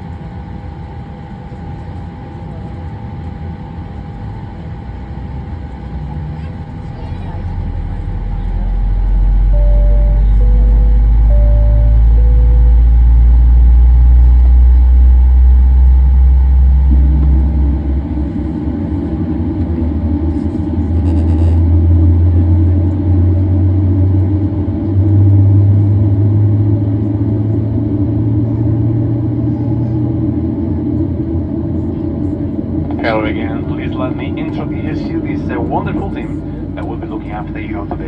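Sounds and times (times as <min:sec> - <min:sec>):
aircraft cabin rumble and hum: 0:00.0 - 0:38.0.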